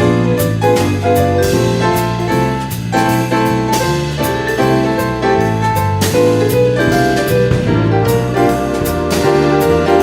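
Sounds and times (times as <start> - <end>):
low bass line: 0.0 - 10.0
piano chords: 0.0 - 10.0.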